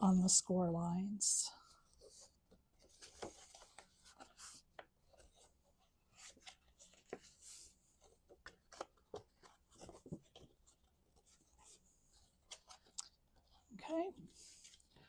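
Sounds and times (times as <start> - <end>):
cardstock being folded: 1.9 - 15.0.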